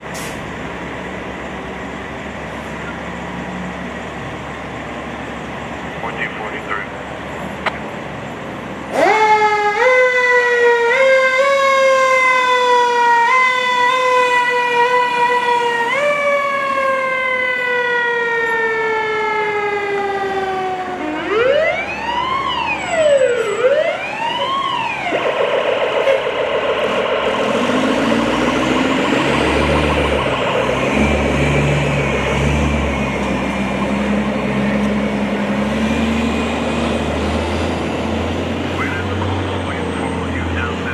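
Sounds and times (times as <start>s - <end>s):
fire truck siren wailing: 0.0s - 40.9s
heavy truck engines rumbling: 0.0s - 40.9s
road noise: 0.0s - 40.9s.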